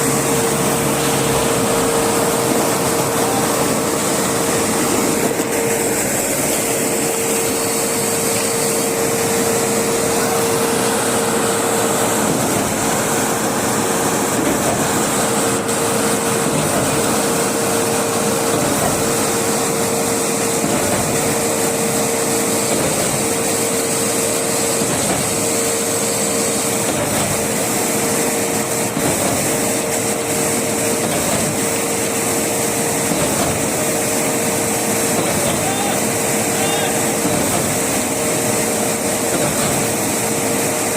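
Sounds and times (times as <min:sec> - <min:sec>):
machine whining: 0:00.0 - 0:40.9.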